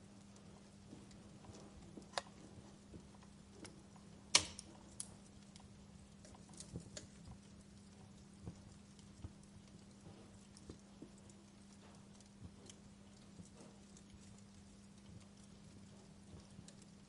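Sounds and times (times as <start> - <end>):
faint low hum: 0.0 - 17.0
wood fire crackling: 0.0 - 17.0.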